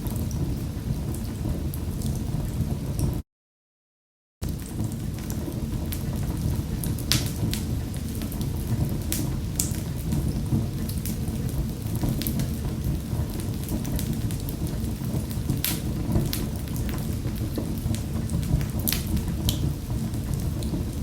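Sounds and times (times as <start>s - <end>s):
wood fire crackling: 0.0s - 3.2s, 4.4s - 21.0s.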